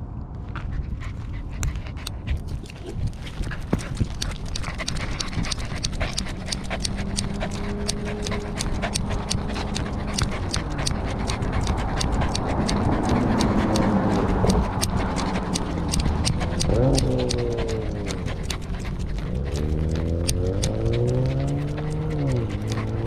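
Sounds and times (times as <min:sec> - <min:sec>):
dog panting: 0:00.5 - 0:23.0
quick regular clicks: 0:01.6 - 0:23.0.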